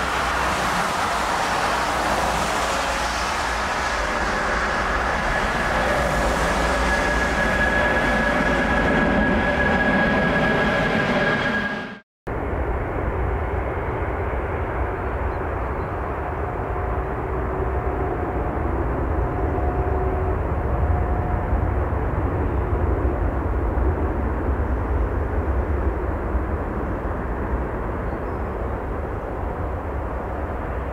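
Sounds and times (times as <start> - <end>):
faint engine whine: 0.0 - 30.9
jet engine rumble: 0.0 - 30.9.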